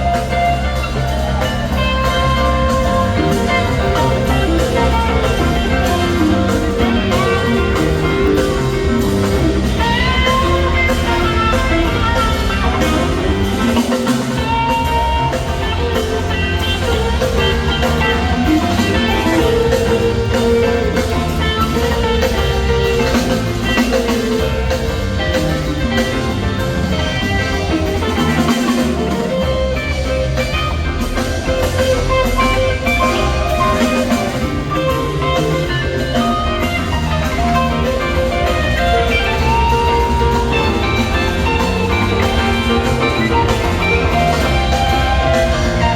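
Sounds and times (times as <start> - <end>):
bass guitar: 0.0 - 45.9
drum kit: 0.0 - 45.9
electric guitar lead: 0.0 - 45.9.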